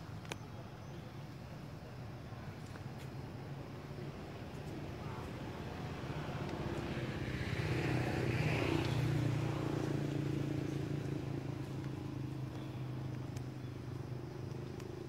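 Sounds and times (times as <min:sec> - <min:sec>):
vehicle engine humming: 0:01.9 - 0:15.0.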